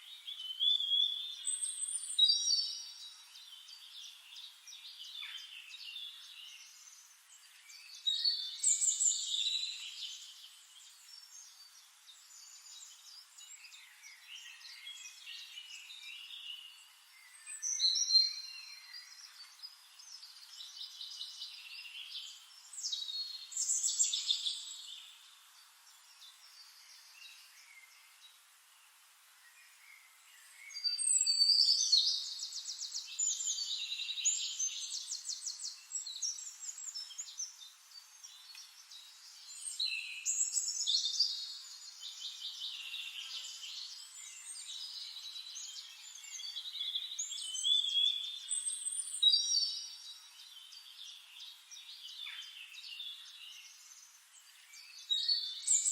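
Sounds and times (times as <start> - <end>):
faint steady hiss: 0.0 - 55.9
songbirds chirping and trilling: 0.0 - 55.9.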